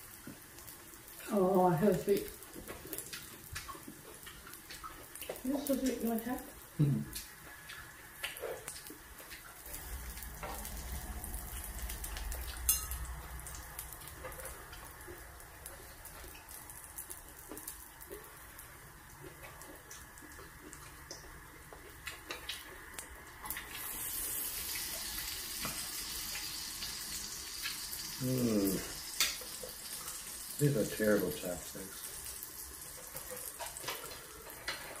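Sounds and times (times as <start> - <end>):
food sizzling on griddle: 0.0 - 7.0, 9.5 - 19.9, 21.1 - 35.0.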